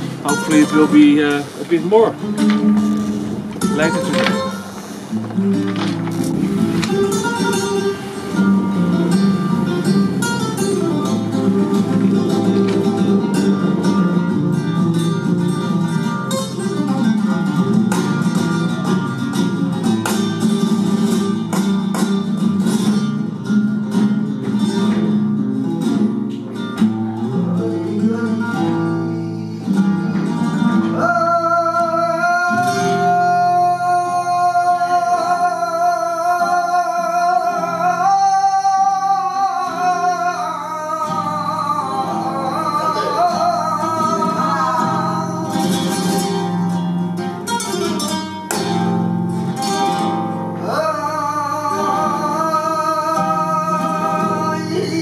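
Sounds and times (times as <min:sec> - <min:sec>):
plucked acoustic guitar: 0:00.0 - 0:55.0.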